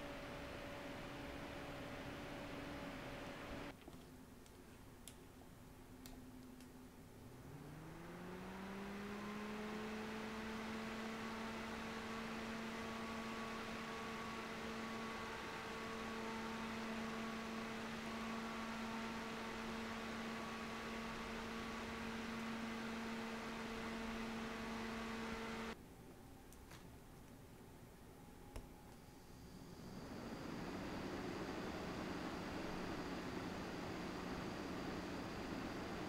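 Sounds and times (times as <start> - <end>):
computer fan running: 0.0 - 36.0.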